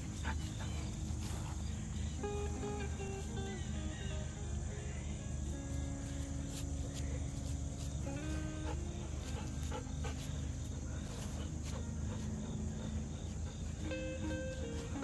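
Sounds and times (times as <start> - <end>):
crickets chirring: 0.0 - 15.0
slow sustained background music: 0.0 - 15.0.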